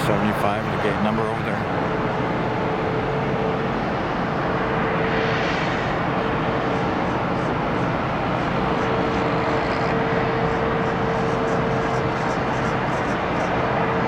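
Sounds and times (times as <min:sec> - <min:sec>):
jet airliner rushing hum: 0:00.0 - 0:14.0.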